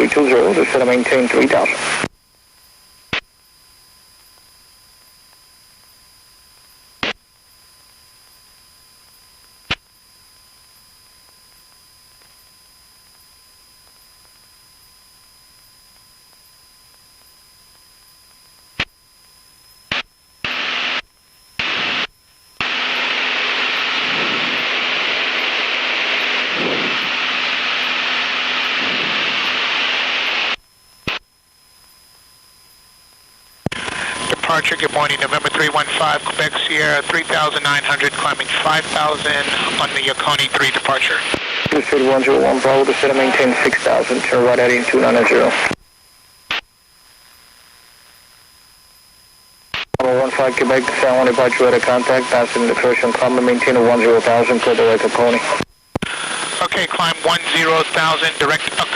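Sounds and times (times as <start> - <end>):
radio static hiss: 0.0 - 58.9.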